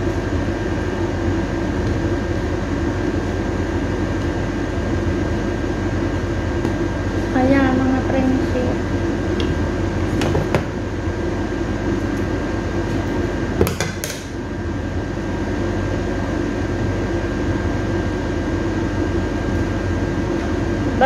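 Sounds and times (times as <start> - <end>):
machine hum with faint whine: 0.0 - 21.0.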